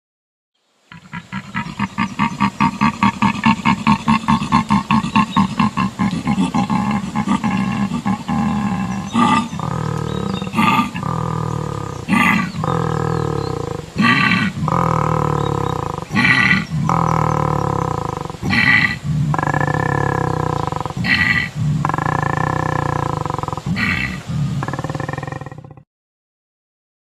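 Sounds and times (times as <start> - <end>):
fast pulsing creature call: 0.9 - 25.8.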